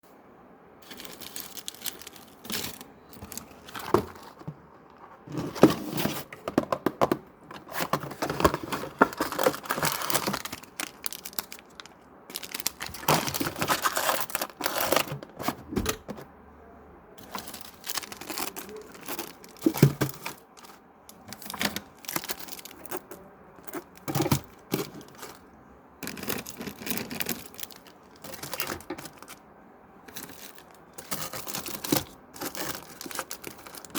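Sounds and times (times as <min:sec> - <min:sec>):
plastic packets rustling: 0:00.8 - 0:16.3, 0:17.2 - 0:29.4, 0:30.0 - 0:33.9.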